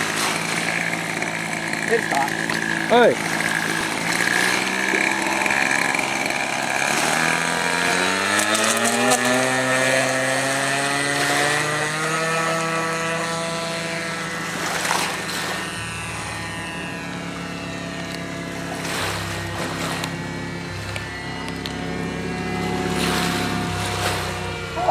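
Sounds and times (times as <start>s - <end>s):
model plane engine: 0.0s - 24.9s.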